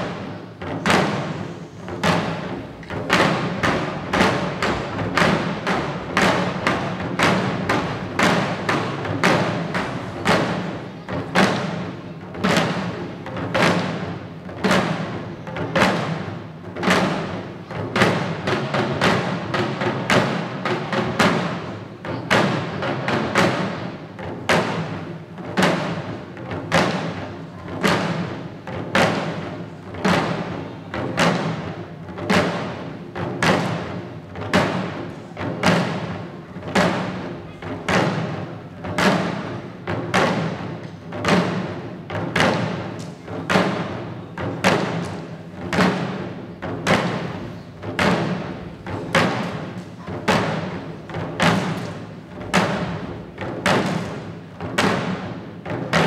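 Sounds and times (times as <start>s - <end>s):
drums struck in steady beat: 0.0s - 56.0s.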